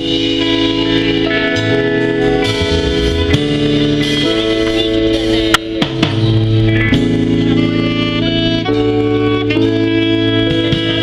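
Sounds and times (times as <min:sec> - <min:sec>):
instrumental band music: 0:00.0 - 0:11.0.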